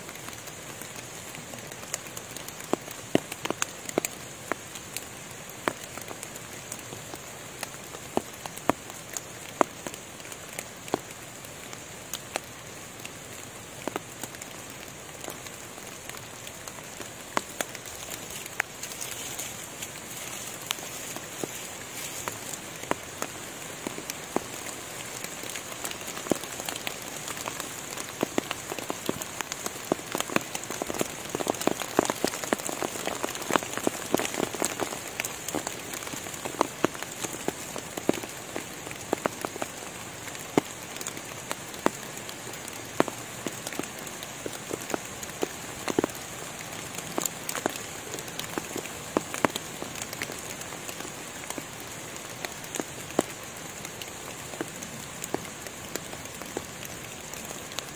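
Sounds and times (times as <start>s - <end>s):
rain falling in forest: 0.0s - 57.9s
raindrops striking leaves: 0.0s - 57.9s.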